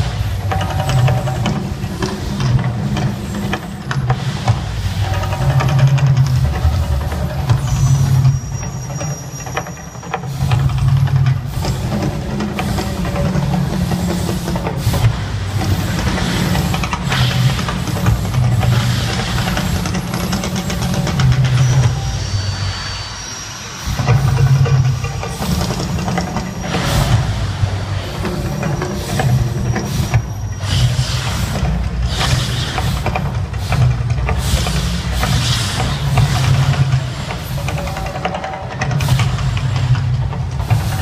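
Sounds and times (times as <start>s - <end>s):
loud hissing noise: 0.0s - 41.0s.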